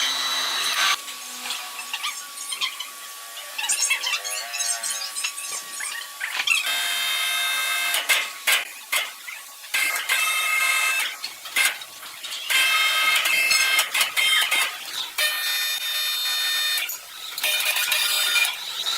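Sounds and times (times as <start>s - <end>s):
sawmill saw cutting wood: 0.0s - 9.1s, 9.7s - 18.9s.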